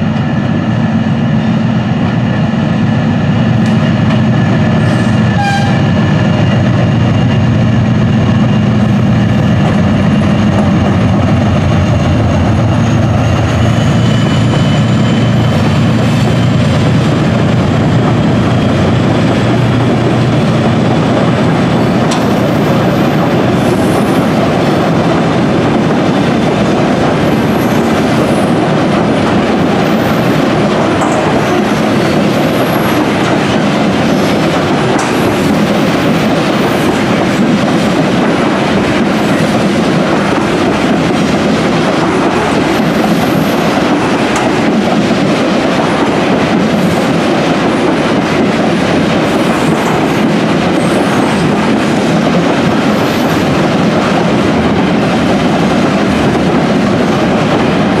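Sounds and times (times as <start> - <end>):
diesel locomotive engines running: 0.0 - 58.0.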